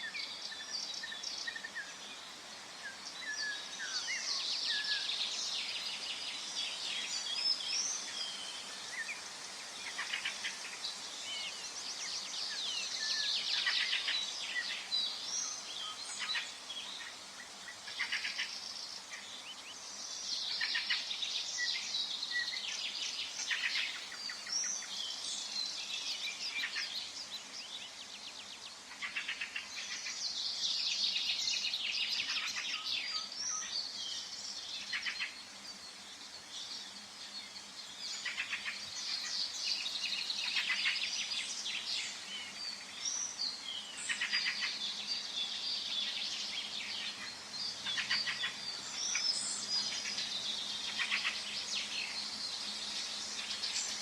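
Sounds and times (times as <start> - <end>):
faint background hiss: 0.0 - 54.0
songbirds singing: 0.0 - 54.0.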